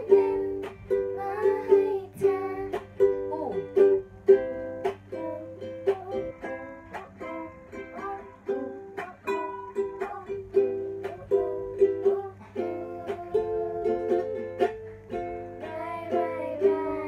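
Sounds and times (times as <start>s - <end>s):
person singing: 0.0s - 17.0s
ukulele strumming: 0.0s - 17.0s.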